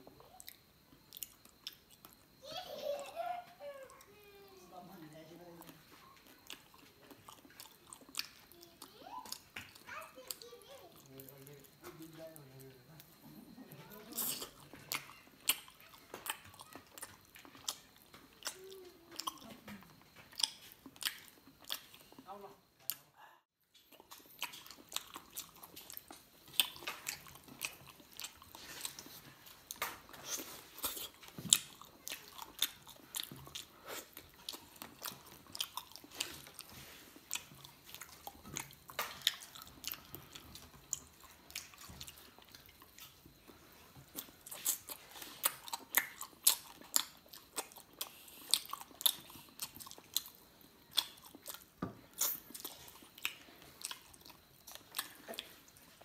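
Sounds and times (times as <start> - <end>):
person chewing with crunches: 0.0 - 2.5, 3.2 - 23.1, 23.7 - 56.0.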